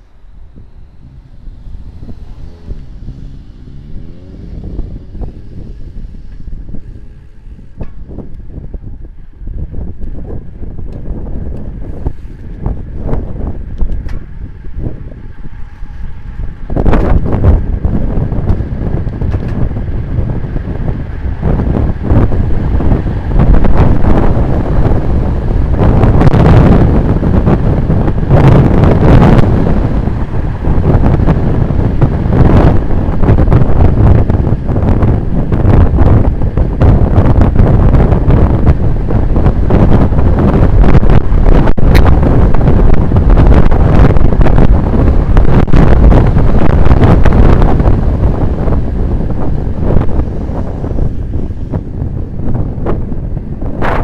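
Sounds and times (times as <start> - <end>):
vehicle engine accelerating: 0.0 - 54.0
wind buffeting microphone: 0.0 - 54.0.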